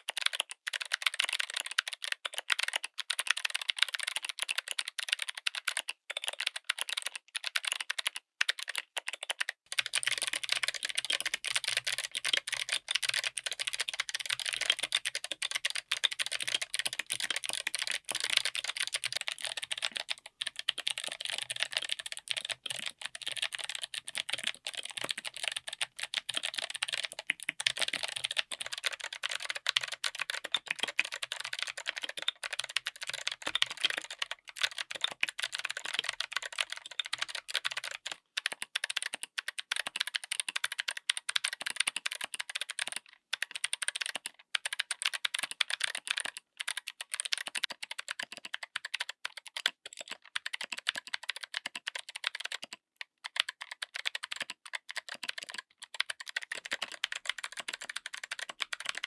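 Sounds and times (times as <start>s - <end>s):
mechanical keyboard typing: 0.1s - 59.0s.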